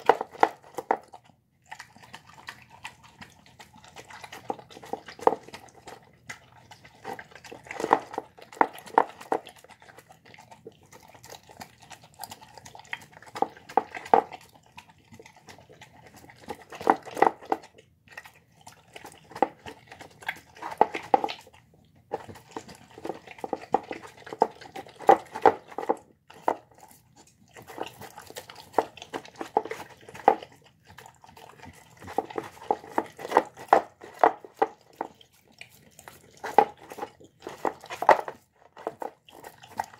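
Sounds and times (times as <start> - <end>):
dog chewing and licking: 0.0 - 39.9.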